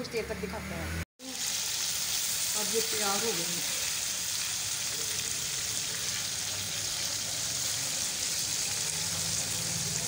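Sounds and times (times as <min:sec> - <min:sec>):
patties sizzling in a frying pan: 0:01.2 - 0:10.0.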